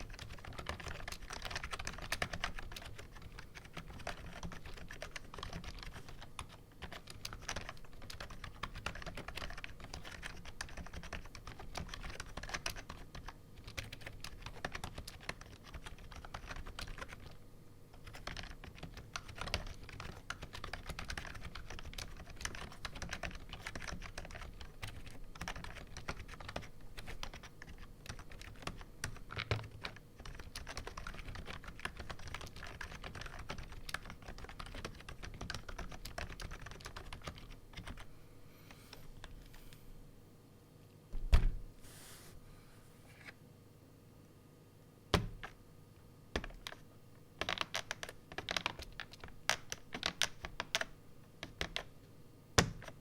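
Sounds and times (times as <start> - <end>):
keyboard typing: 0.0 - 38.1, 47.4 - 51.9.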